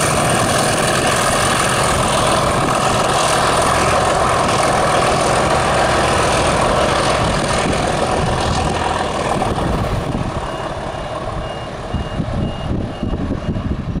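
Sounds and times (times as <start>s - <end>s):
diesel locomotive engines thrashing: 0.0s - 14.0s.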